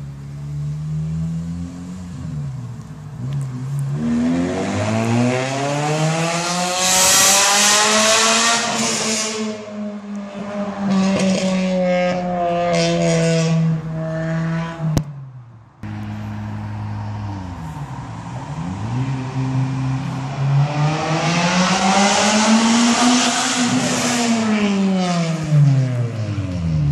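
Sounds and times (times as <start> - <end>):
car engine accelerating past: 3.2 - 14.9, 15.8 - 26.9.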